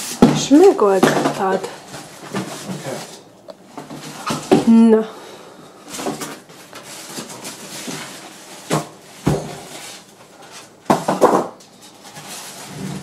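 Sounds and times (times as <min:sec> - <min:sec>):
foam and plastic wrap rustling: 0:00.0 - 0:05.0, 0:05.8 - 0:13.0.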